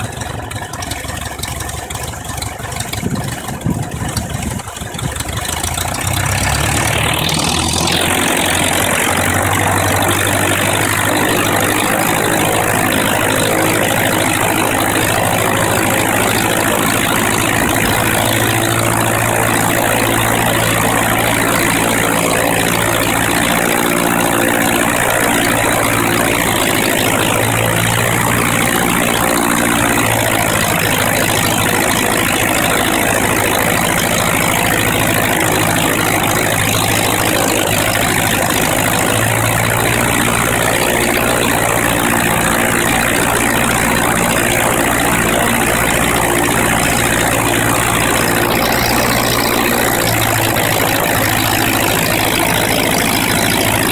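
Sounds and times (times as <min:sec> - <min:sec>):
aircraft engine running: 0:00.0 - 0:53.9.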